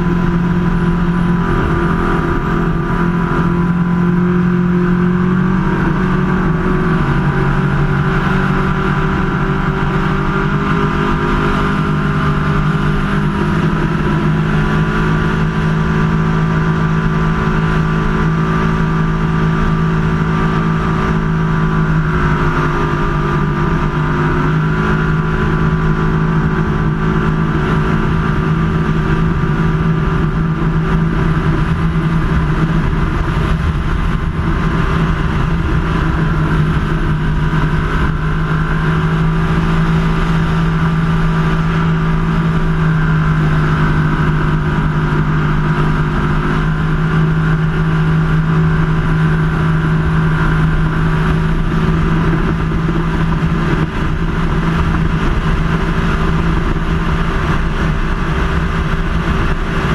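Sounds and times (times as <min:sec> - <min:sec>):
boat engine running hard: 0:00.0 - 0:59.9
wind and water rushing: 0:00.0 - 0:59.9.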